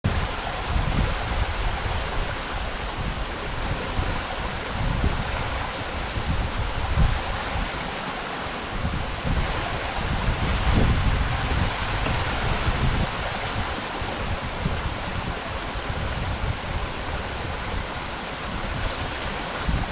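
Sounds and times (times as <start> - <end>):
rush of falling water: 0.0 - 19.9
wind buffeting microphone: 0.0 - 19.9.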